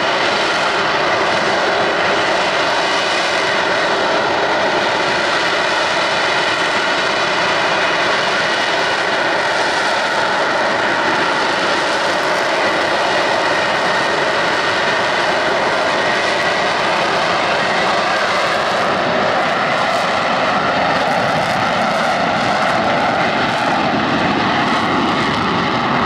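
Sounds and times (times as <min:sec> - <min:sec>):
jet engine roaring steadily: 0:00.0 - 0:26.0.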